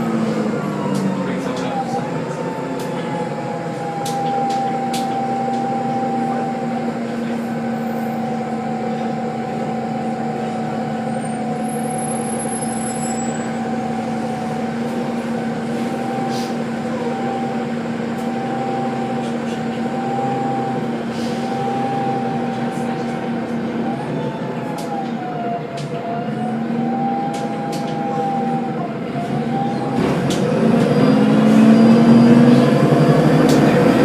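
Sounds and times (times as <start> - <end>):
bus engine drone with whine: 0.0 - 34.0.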